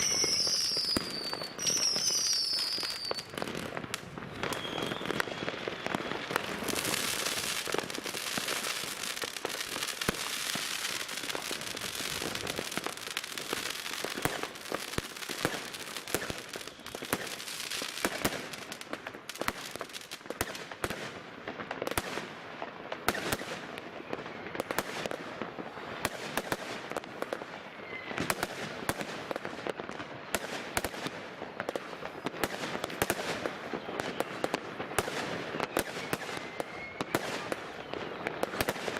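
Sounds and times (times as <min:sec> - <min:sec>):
fireworks bangs and pops: 0:00.0 - 0:38.9
fireworks crackling hiss: 0:00.0 - 0:38.9.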